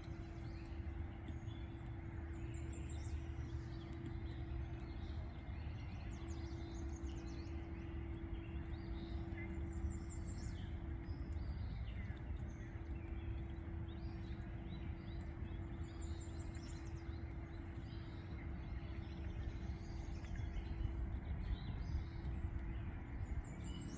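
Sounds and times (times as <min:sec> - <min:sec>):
faint steady hum: 0:00.0 - 0:23.9
low background rumble: 0:00.0 - 0:23.9
songbirds singing: 0:00.0 - 0:23.9.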